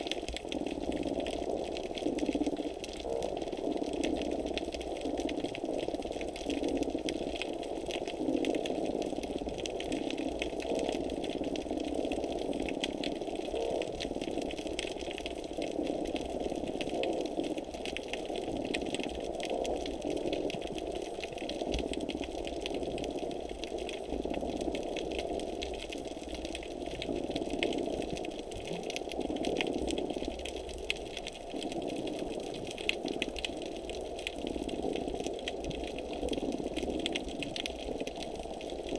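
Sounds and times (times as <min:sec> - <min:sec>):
fine crackle of small clicks: 0:00.0 - 0:38.9.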